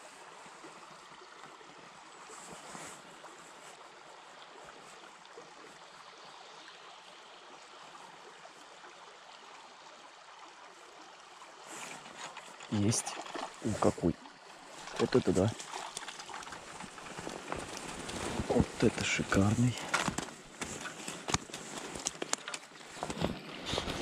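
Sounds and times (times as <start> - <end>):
stream babbling: 0.0 - 24.0.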